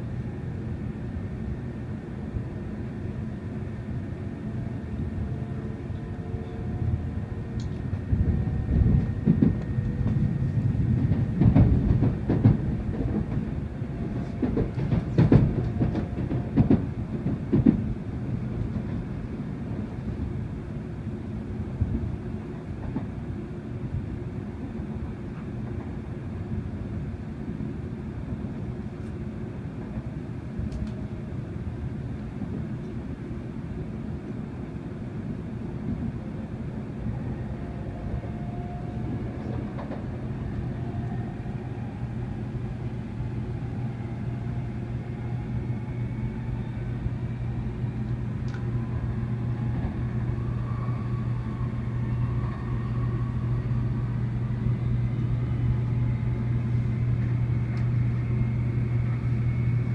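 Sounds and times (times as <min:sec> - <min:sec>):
train rumble from inside: 0:00.0 - 0:59.9.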